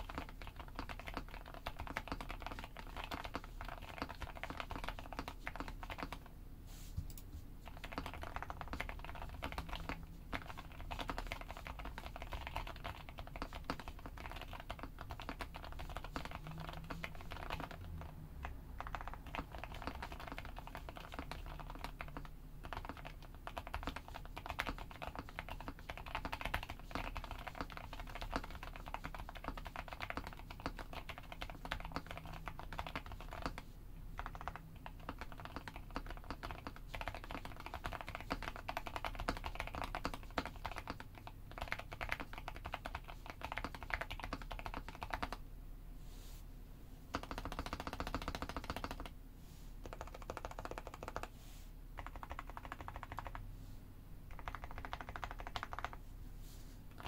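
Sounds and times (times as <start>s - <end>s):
fast typing on mechanical keyboard: 0.0s - 6.3s, 7.1s - 45.4s, 47.1s - 49.2s, 49.8s - 51.4s, 52.0s - 53.5s, 54.3s - 56.0s.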